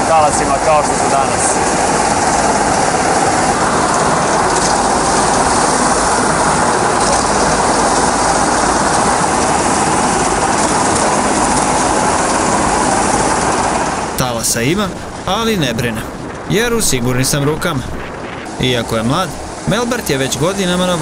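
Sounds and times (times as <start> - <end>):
boat motor clattering: 0.0 - 21.0.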